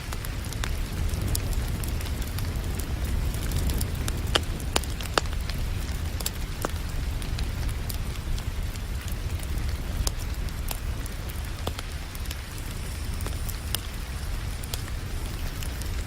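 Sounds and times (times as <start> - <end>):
rain hissing: 0.0 - 16.0
wood fire crackling and popping: 0.0 - 16.0.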